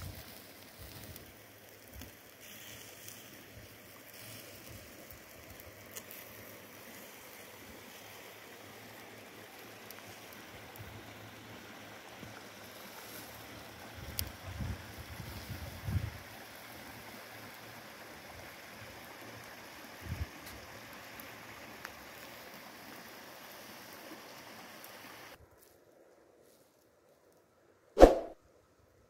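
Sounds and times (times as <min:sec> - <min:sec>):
faint rush of waterfall: 0:00.0 - 0:25.4.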